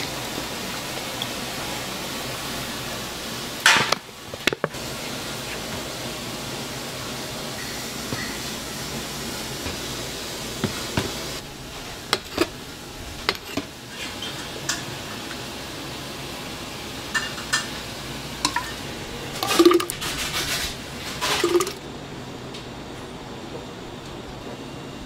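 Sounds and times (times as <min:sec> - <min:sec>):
meat sizzling on grill: 0:00.0 - 0:21.6.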